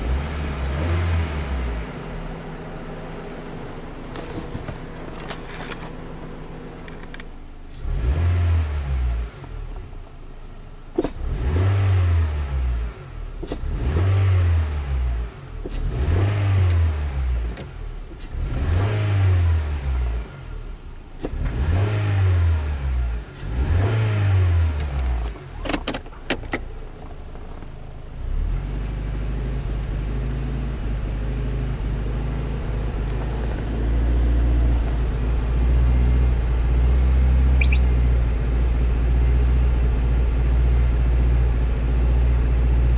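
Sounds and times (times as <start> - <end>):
car engine revving: 0.0 - 6.8, 7.7 - 10.0, 11.0 - 25.9, 28.2 - 42.9.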